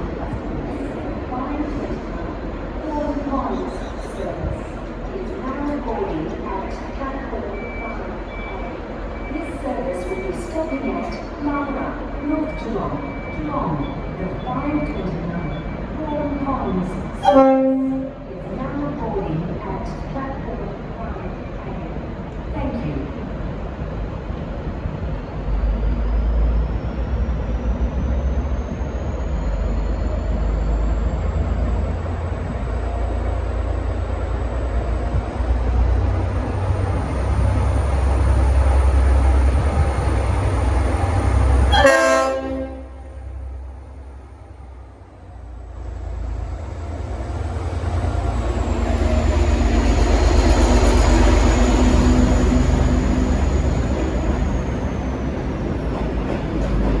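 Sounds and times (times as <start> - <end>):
diesel locomotive engine rumble: 0.0 - 57.0.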